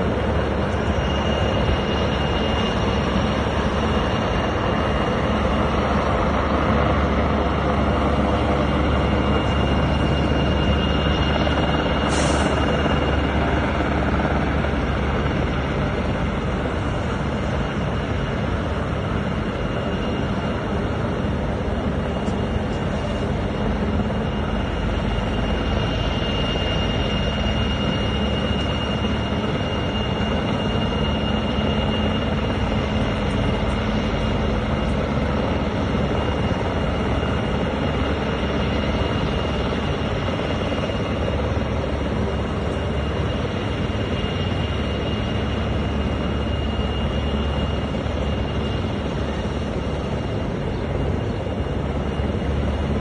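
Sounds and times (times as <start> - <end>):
helicopter rotor and engine drone: 0.0 - 53.0
high whine: 0.0 - 53.0.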